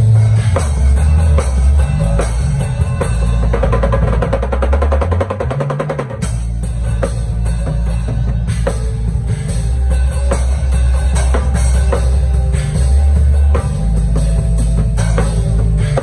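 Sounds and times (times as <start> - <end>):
backing music with deep bass: 0.0 - 16.0
drum kit with cymbals: 0.0 - 16.0.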